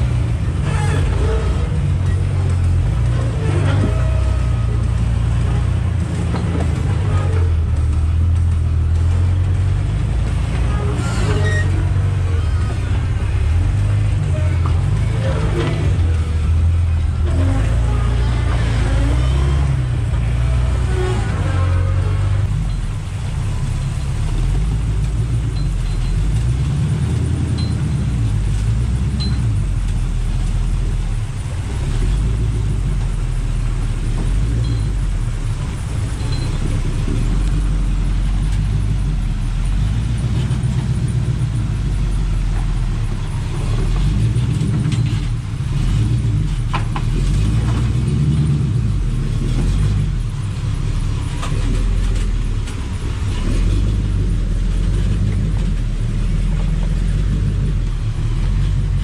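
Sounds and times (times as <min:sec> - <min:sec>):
off-road vehicle engine rumbling: 0:00.0 - 0:59.0.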